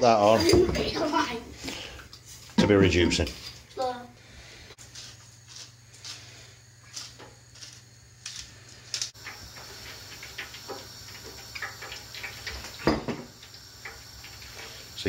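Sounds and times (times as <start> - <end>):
soft hiss with crackling: 0.8 - 15.0.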